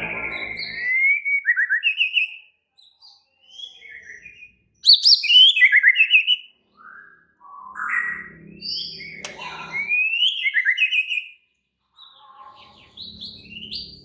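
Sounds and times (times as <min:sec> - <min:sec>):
bird singing whistled phrases: 0:00.0 - 0:11.4.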